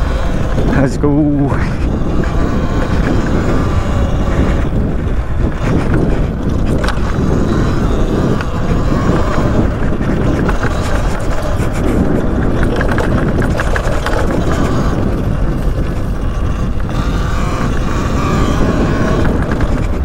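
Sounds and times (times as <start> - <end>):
tyre and drivetrain noise: 0.0 - 20.0
wind rushing on microphone: 0.0 - 20.0.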